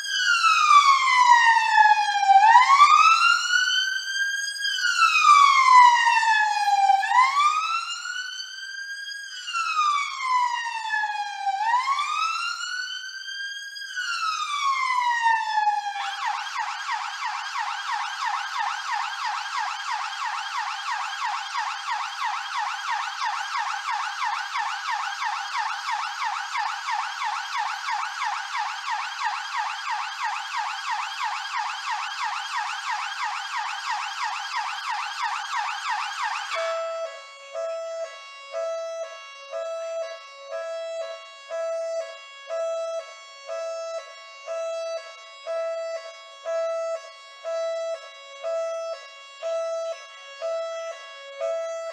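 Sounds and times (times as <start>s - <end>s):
police siren wailing and yelping: 0.0s - 51.9s.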